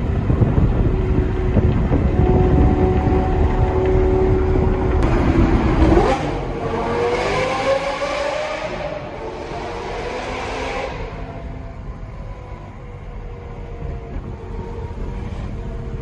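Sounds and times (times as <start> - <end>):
sports car engine revving: 0.1 - 16.0.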